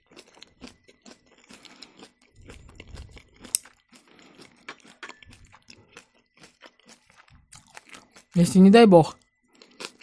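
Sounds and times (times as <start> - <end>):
person chewing and crunching food: 0.0 - 10.0.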